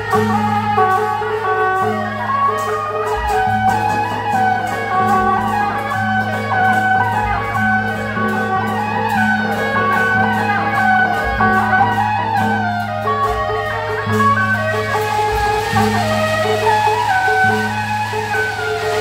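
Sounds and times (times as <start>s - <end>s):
plucked-string melody: 0.0s - 19.0s
steady beat: 0.0s - 19.0s.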